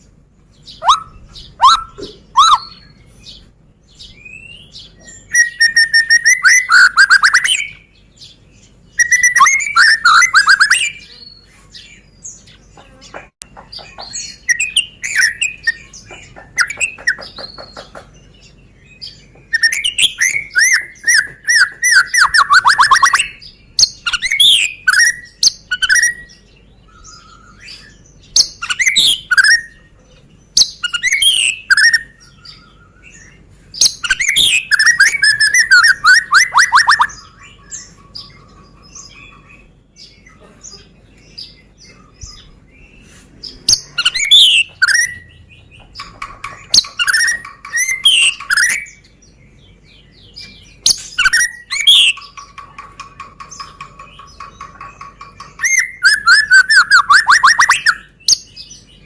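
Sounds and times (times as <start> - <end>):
bird singing with trills: 0.0 - 59.0.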